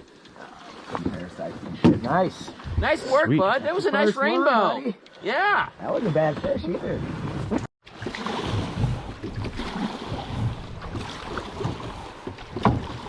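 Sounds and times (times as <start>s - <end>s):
river water splashing and flowing: 0.0s - 13.0s.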